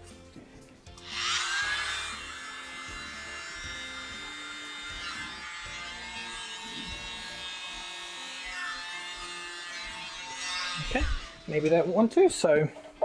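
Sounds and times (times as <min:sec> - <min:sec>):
electric air blower motor buzz: 0:01.0 - 0:11.8.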